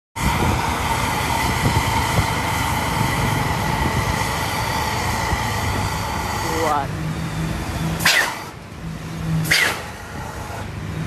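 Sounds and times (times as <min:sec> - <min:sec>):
low engine rumble: 0:00.2 - 0:11.0.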